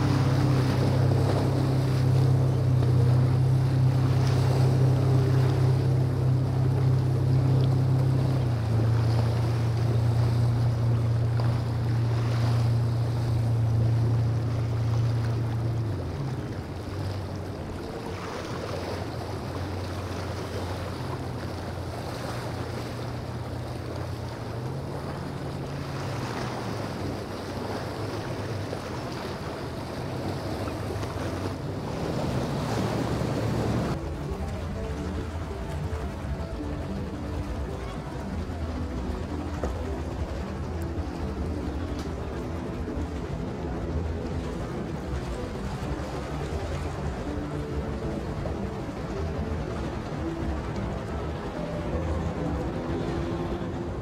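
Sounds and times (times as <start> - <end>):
boat engine drone: 0.0 - 54.0
surf: 0.0 - 54.0.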